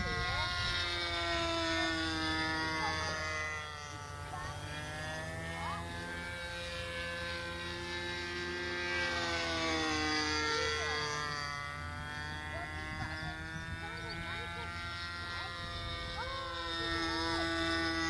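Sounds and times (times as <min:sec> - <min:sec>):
model airplane engine buzzing: 0:00.0 - 0:18.0.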